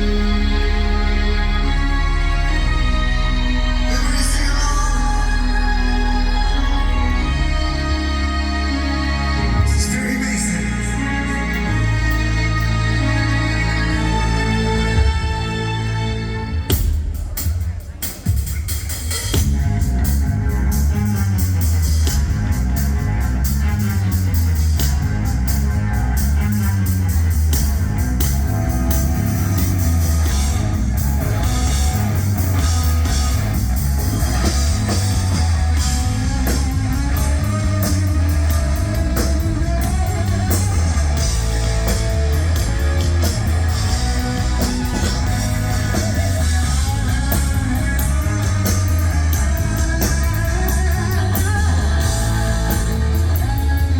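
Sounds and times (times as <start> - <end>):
heavy metal band playing: 0.0 - 53.9.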